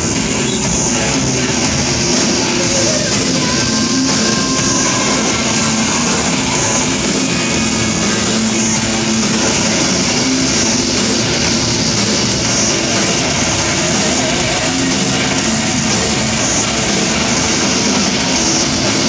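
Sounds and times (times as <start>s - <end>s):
live metal band playing: 0.0s - 19.0s.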